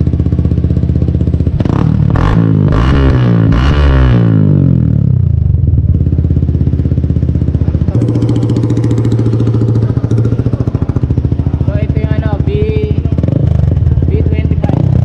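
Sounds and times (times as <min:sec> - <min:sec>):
motorcycle engine idling: 0:00.0 - 0:02.7, 0:04.3 - 0:15.0.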